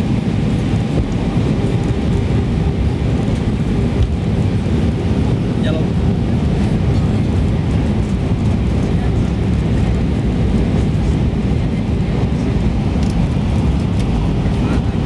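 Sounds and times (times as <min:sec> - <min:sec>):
engine and airflow rumble: 0:00.0 - 0:15.0.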